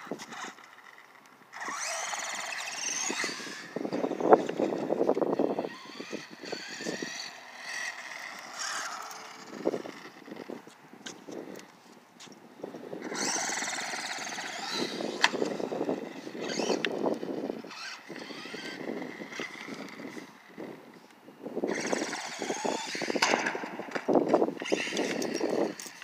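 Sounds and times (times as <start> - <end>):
toy truck motor whining: 0.0 - 10.8, 13.0 - 20.9, 21.6 - 23.2, 24.5 - 26.0.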